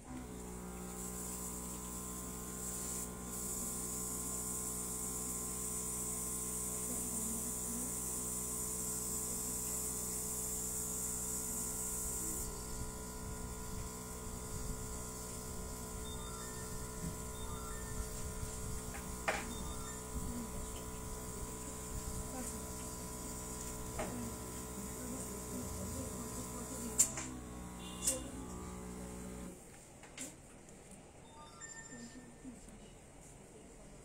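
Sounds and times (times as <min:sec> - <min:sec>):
airbrush compressor humming: 0:00.1 - 0:29.6
airbrush spraying air hiss: 0:00.6 - 0:27.8.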